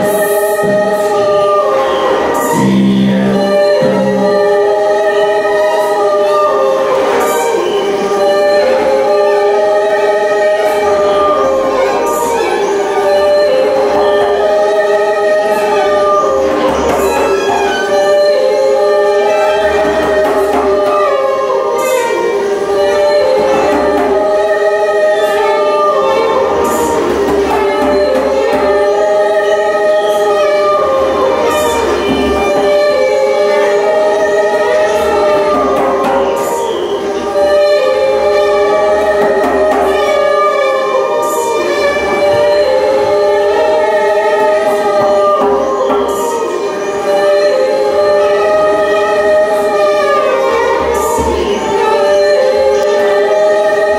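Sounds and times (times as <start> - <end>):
held drone note: 0.0 - 53.9
layered wordless singing: 0.0 - 53.9.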